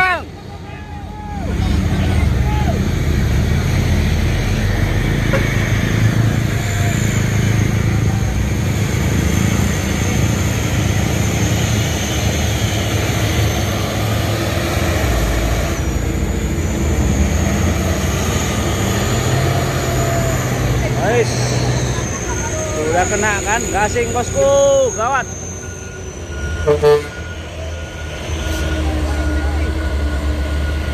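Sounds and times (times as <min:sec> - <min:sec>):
road traffic noise: 0:00.0 - 0:30.9
truck engine running: 0:00.0 - 0:30.9.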